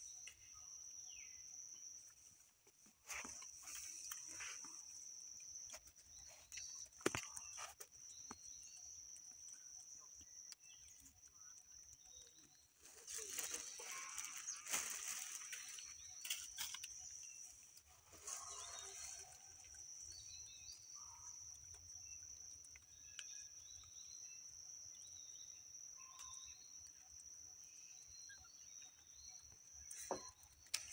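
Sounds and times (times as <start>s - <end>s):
faint chirps: 0.0s - 30.9s.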